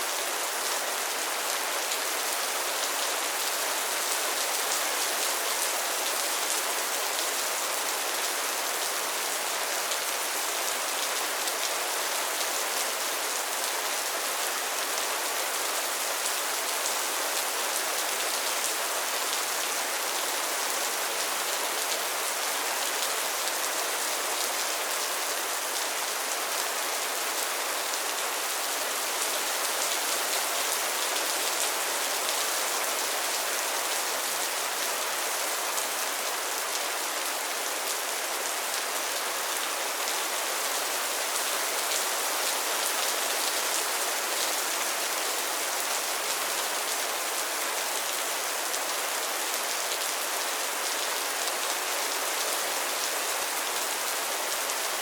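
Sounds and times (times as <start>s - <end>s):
rain falling on a pond: 0.0s - 55.0s.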